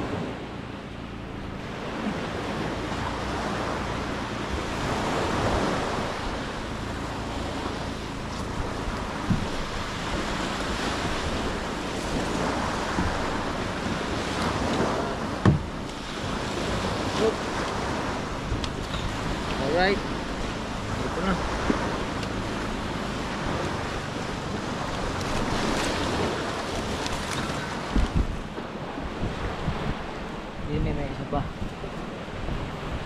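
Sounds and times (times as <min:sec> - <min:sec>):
wind buffeting microphone: 0:00.0 - 0:33.0
surf breaking on beach: 0:01.4 - 0:33.0.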